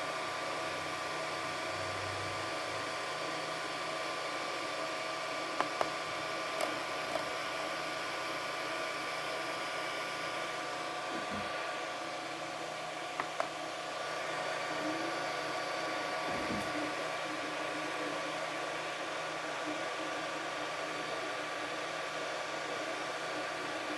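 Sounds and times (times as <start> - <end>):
cooling fans whirring: 0.0 - 23.9.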